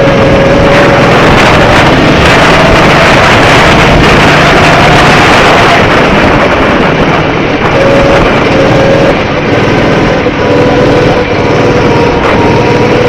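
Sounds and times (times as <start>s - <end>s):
go-kart engine running: 0.0s - 13.0s
wind noise on microphone: 0.0s - 13.0s.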